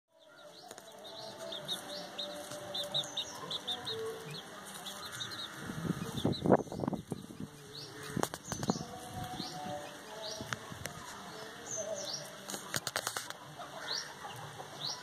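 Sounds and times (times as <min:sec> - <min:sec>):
chicks peeping: 0:00.2 - 0:15.0.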